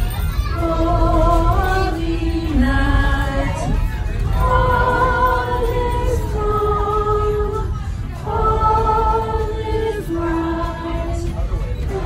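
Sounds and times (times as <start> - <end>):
passengers singing together: 0.0 - 12.0.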